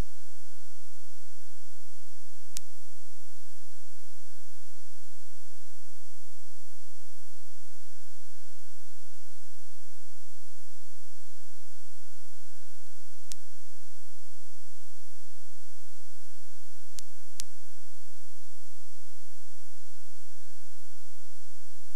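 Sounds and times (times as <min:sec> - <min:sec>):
electrical hum with whine: 0:00.0 - 0:21.9.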